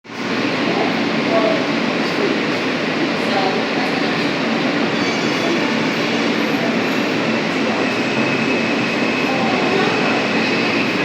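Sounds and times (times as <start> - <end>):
subway train rumbling in tunnel: 0.0 - 11.0.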